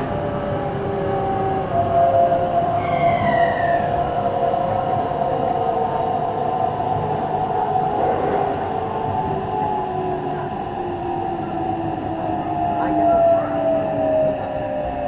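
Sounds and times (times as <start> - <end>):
train wheel and track rumble: 0.0 - 15.0.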